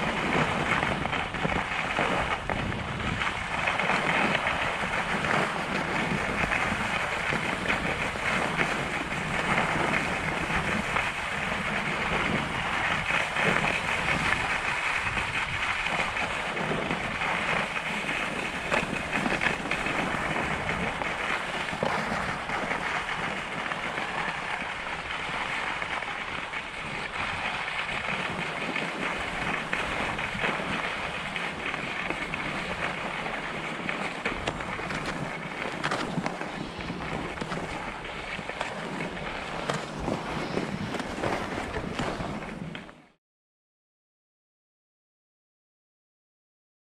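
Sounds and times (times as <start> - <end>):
wind buffeting microphone: 0.0 - 43.0
skis scraping over snow: 0.0 - 43.1.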